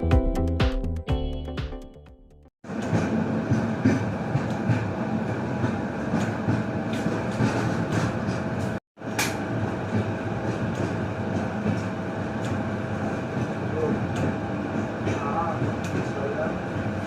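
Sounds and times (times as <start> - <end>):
passenger train rumbling: 2.7 - 17.0.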